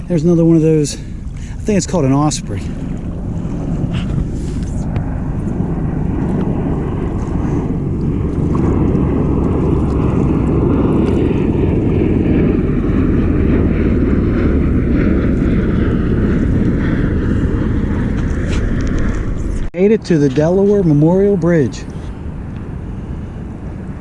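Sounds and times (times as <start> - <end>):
low-flying aircraft rumble: 0.0 - 24.0.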